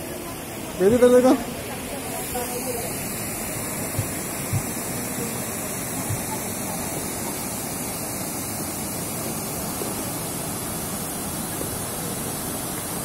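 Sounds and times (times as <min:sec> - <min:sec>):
water pouring over a weir: 0:02.3 - 0:13.0.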